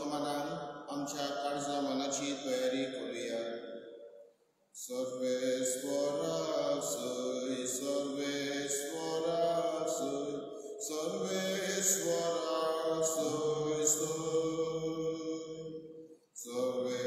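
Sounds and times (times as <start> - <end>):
person chanting a slow melody: 0.0 - 3.6, 4.8 - 17.0.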